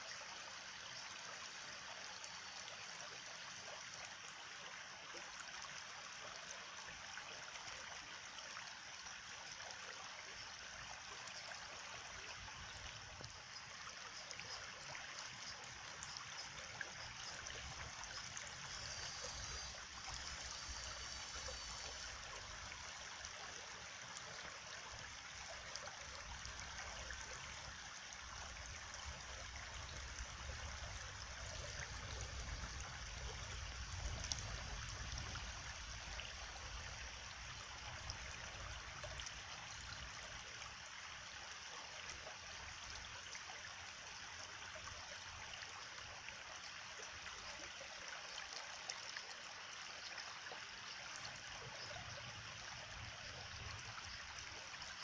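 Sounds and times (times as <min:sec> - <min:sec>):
stream water trickling over stones: 0:00.0 - 0:55.0.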